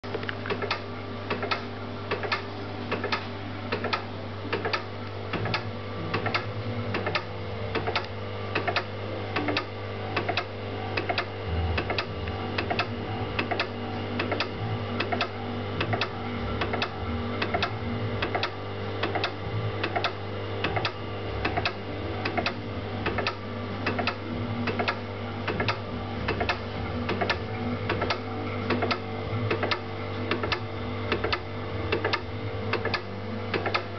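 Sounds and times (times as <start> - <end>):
rhythmic mechanical clicking: 0.0 - 33.9
steady electrical hum: 0.0 - 33.9.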